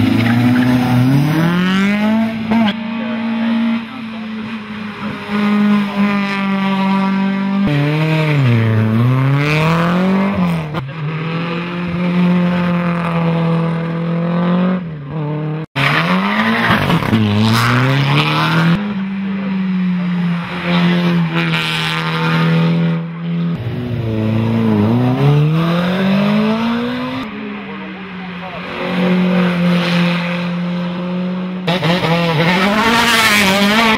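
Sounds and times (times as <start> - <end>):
race car engines revving: 0.0 - 33.9.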